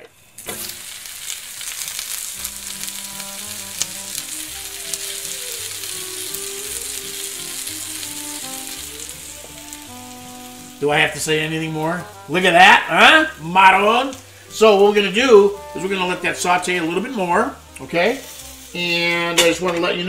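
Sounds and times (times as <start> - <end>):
vegetables sizzling in a skillet: 0.0 - 20.0.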